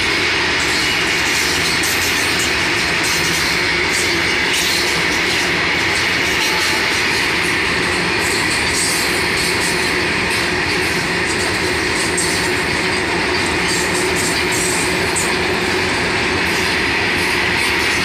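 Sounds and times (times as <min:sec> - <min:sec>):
train wheels running on rail: 0:00.0 - 0:18.0.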